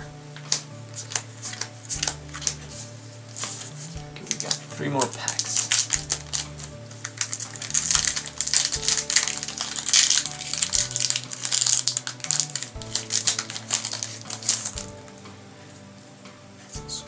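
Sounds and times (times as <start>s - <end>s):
background music: 0.0s - 17.0s
foil wrapper crinkling: 0.4s - 2.7s, 3.3s - 15.2s.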